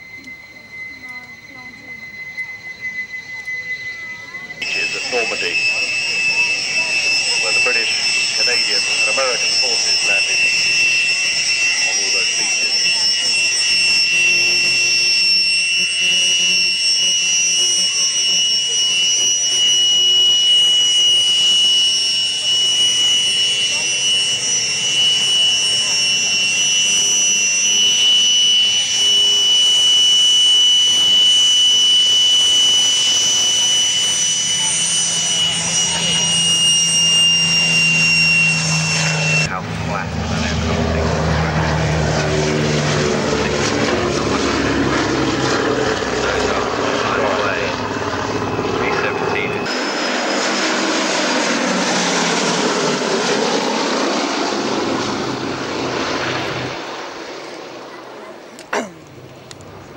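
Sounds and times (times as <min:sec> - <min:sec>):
high steady whistle: 0:00.0 - 0:58.9
jet engines whining: 0:00.0 - 0:59.9
propeller aircraft drone: 0:00.0 - 0:59.9.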